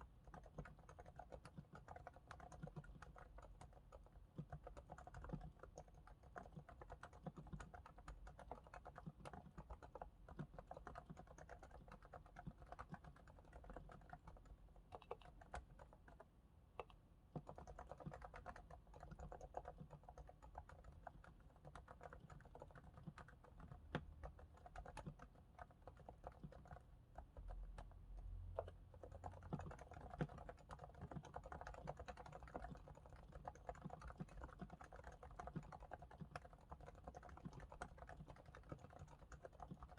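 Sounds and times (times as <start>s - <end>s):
soft keyboard typing clicks: 0.0s - 39.9s.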